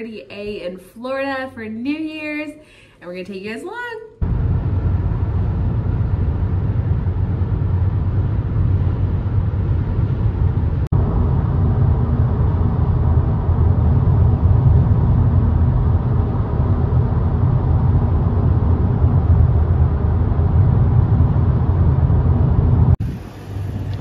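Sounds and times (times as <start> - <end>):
car road rumble: 4.2 - 24.0.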